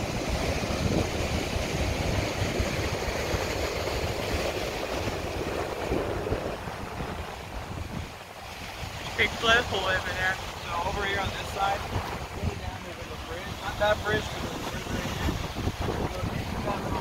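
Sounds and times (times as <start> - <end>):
ocean surf breaking on rocks: 0.0 - 17.0
wind buffeting microphone: 0.0 - 17.0.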